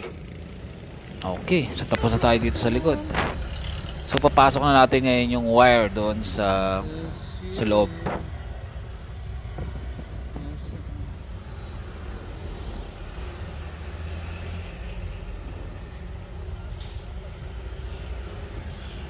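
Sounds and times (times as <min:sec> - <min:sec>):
motor vehicle rumbling: 0:00.0 - 0:19.0.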